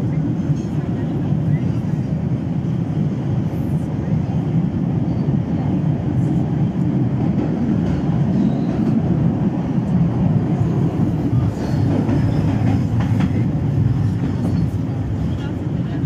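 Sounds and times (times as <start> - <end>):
subway train rumble: 0.0 - 16.0.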